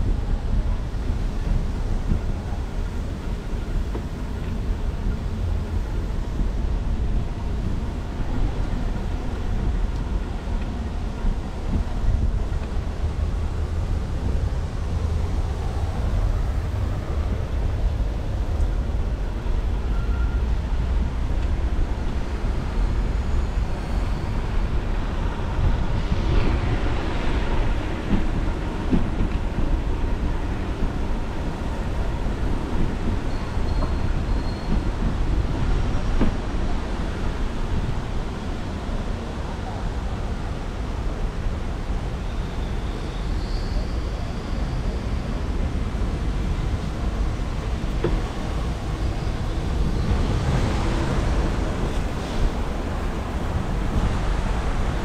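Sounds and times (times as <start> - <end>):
wind buffeting microphone: 0.0 - 41.8, 45.2 - 55.0.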